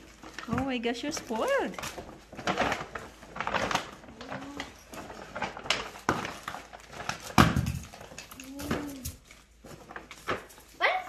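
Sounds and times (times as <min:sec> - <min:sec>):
paper bag rustling and crinkling: 0:00.0 - 0:11.0.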